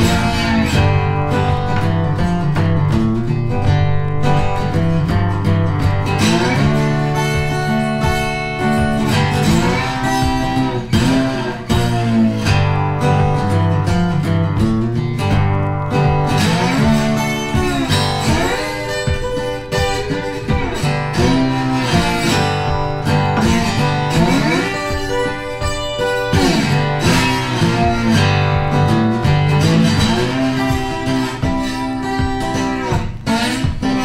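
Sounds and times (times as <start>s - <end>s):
guitar-led soundtrack music: 0.0s - 34.0s.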